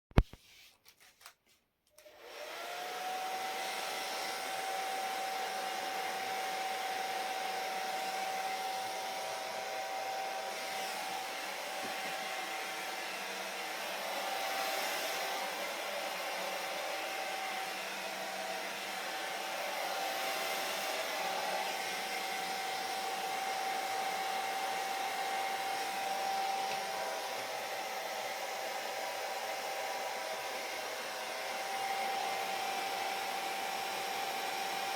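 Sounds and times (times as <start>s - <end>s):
hair dryer running: 2.0s - 34.9s.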